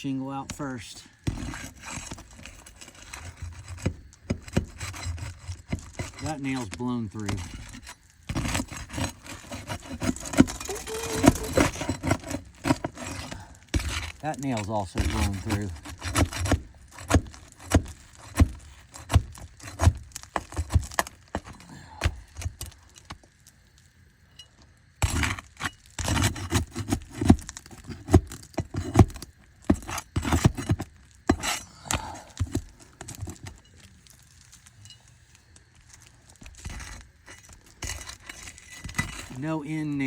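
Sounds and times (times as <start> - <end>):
metal tools scraping shingles: 0.0 - 23.2, 24.4 - 40.0.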